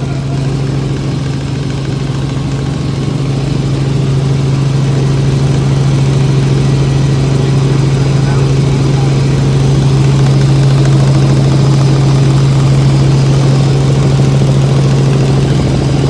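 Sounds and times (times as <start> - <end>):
helicopter drone: 0.0 - 16.0.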